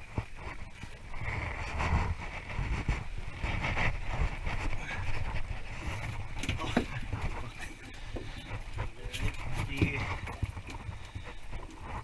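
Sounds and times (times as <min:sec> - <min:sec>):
wind buffeting microphone: 0:00.0 - 0:12.0
handling knocks and rustling: 0:00.1 - 0:12.0.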